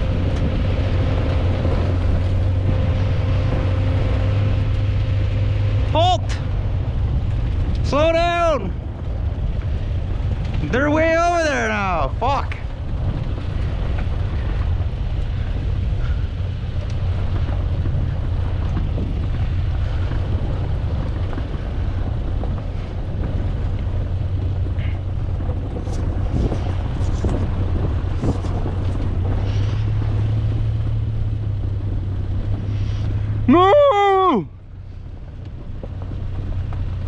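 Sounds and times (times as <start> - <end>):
car engine running: 0.0 - 37.0
tyres rolling over dirt: 0.0 - 37.0
wind on microphone: 0.0 - 37.0.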